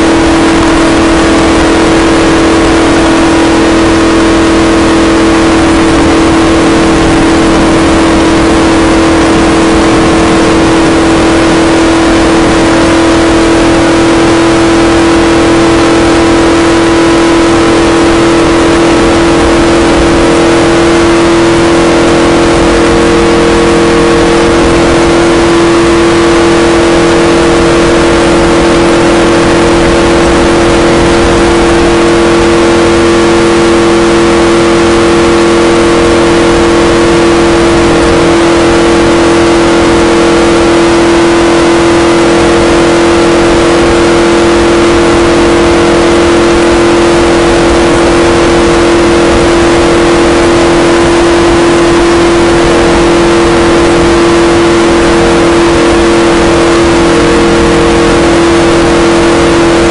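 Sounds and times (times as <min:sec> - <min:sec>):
car engine loud constant drone: 0:00.0 - 0:59.9
wind and road noise: 0:00.0 - 0:59.9.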